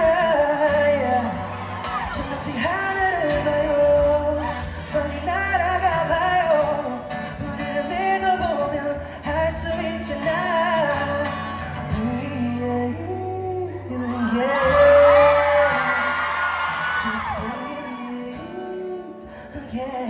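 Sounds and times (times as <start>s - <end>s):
guitar accompaniment: 0.0s - 20.0s
man singing: 0.0s - 20.0s.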